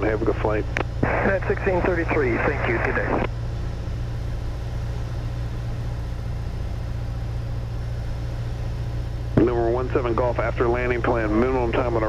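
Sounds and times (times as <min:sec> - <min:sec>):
airplane piston engine drone: 0:00.0 - 0:12.0.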